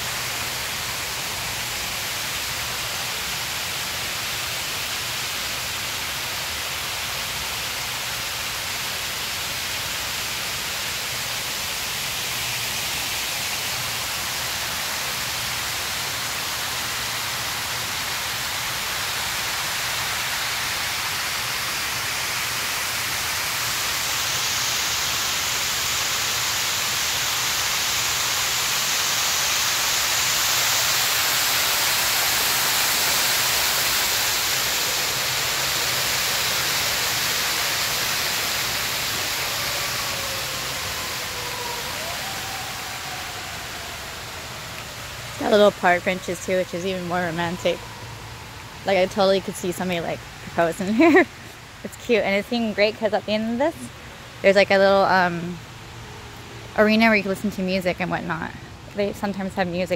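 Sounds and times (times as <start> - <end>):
rushing water from water feature: 0.0 - 59.9.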